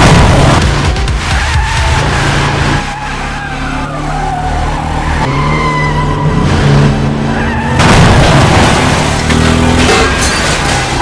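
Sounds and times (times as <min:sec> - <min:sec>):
tyres squealing and skidding: 0:01.3 - 0:11.0.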